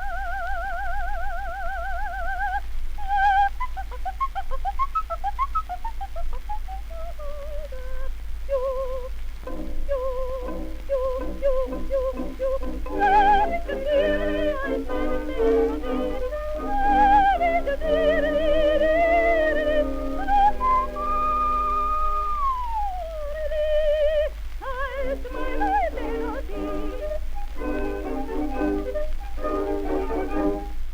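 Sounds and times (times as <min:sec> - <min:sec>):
soprano singing trills: 0:00.0 - 0:30.8
low recording hum: 0:00.0 - 0:30.9.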